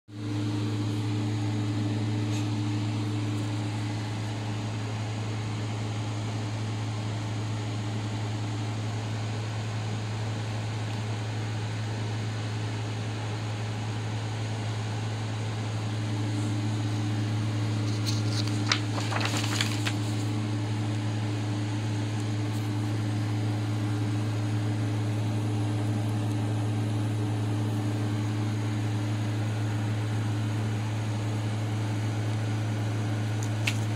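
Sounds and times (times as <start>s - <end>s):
low machine hum: 0.1s - 33.9s.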